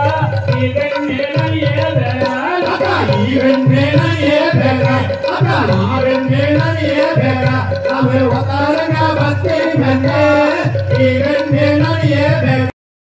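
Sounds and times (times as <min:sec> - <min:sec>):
folk singing: 0:00.0 - 0:12.7
steady drum beat: 0:00.0 - 0:12.7.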